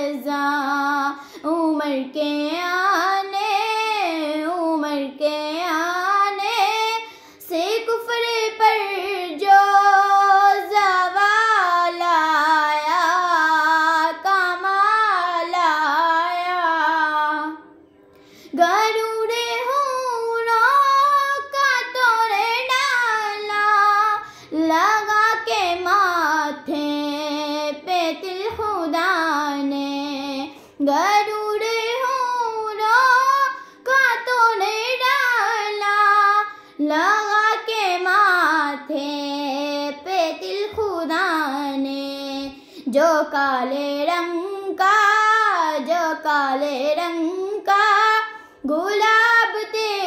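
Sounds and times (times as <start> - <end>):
girl singing unaccompanied: 0.0 - 17.8, 18.4 - 50.0.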